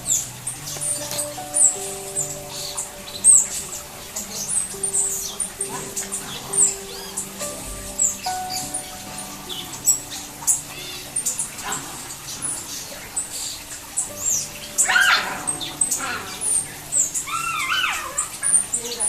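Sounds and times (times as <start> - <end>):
small birds chirping and whistling: 0.0 - 19.0.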